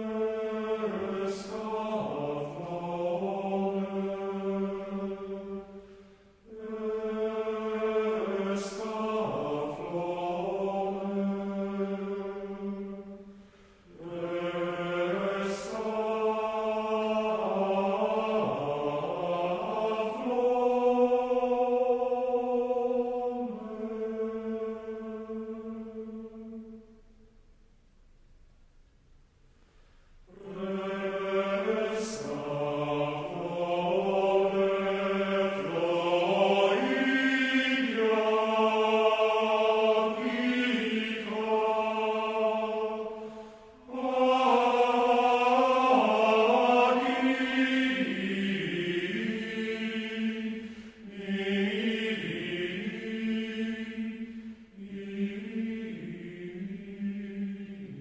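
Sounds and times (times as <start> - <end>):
choir singing held notes: 0.0 - 27.0, 30.3 - 58.0.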